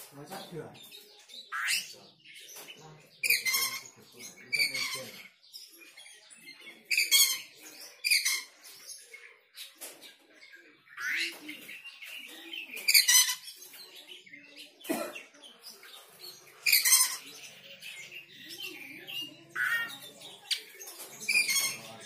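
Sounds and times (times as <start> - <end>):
bird chirps: 0.0 - 22.0
bird harsh rasping song: 0.0 - 22.0.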